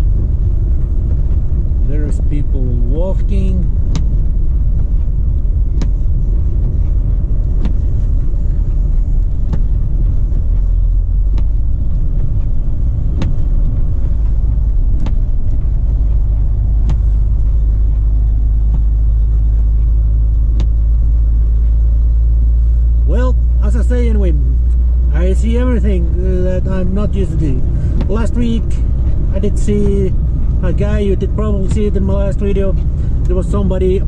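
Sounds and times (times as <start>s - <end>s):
truck diesel engine drone: 0.0s - 34.0s.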